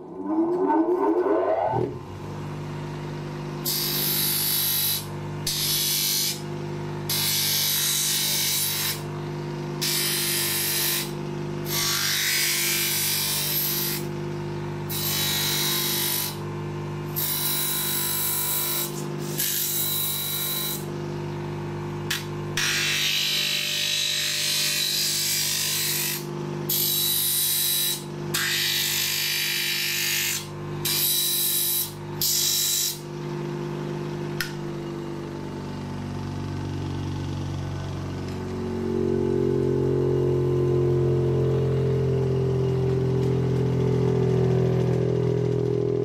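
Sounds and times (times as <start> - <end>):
grinder motor hum: 0.0 - 46.0.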